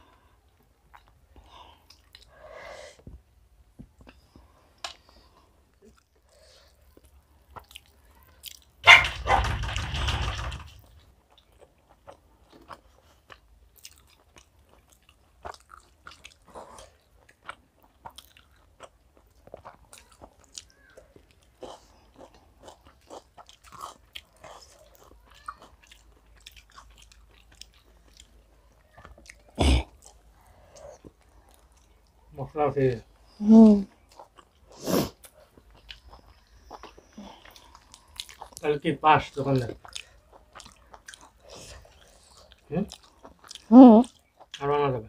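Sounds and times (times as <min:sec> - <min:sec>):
chewing and lip smacking: 0:00.5 - 0:02.4, 0:04.0 - 0:08.8, 0:11.0 - 0:32.3, 0:33.2 - 0:44.7.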